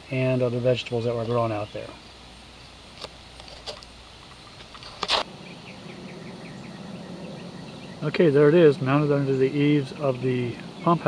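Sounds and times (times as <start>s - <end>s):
insects chirping: 0.0s - 11.0s
low steady hum: 0.0s - 11.0s.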